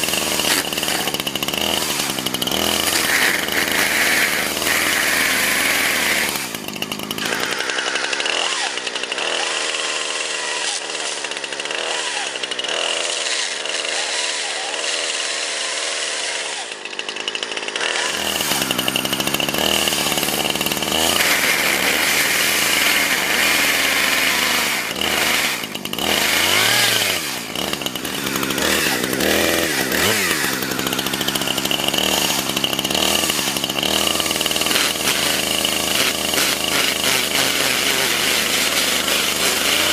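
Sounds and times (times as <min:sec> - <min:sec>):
chainsaw revving while cutting: 0:00.0 - 0:39.9.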